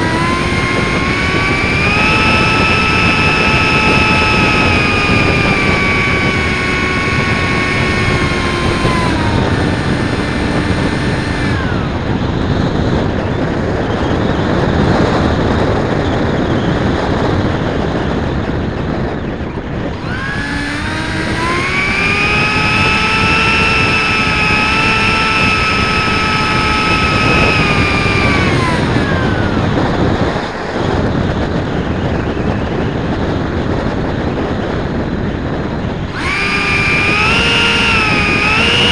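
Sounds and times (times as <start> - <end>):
electric motor whine: 0.0 - 15.1, 19.1 - 33.7, 34.8 - 38.9
wind rushing: 0.0 - 38.9.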